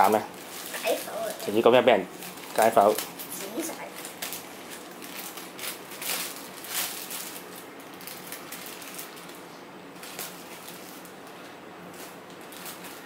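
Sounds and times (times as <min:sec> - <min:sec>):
paper crinkling: 0:00.2 - 0:13.0.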